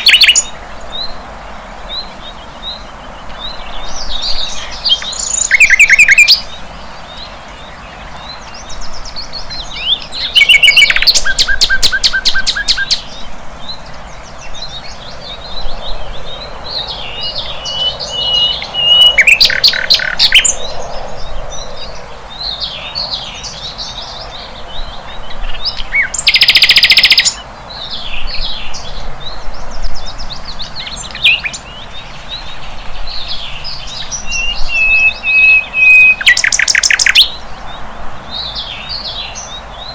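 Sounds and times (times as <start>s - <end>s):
flycatcher singing: 0.0s - 1.3s, 1.9s - 39.9s.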